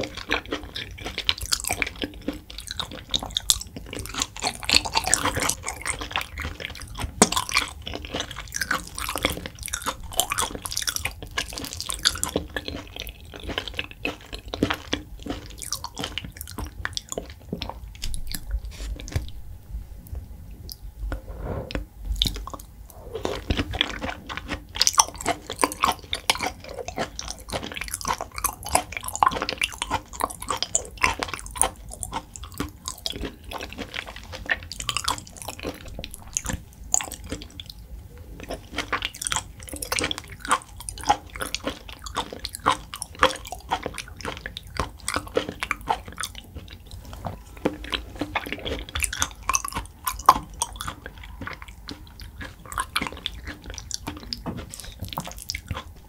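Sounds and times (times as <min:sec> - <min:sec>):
wet chewing mouth clicks: 0:00.0 - 0:19.4, 0:21.7 - 0:56.0.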